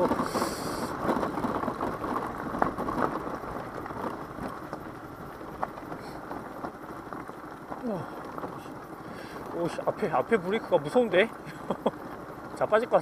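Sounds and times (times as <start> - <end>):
scooter rattling: 0.0 - 13.0
tyres crackling over gravel: 0.0 - 13.0.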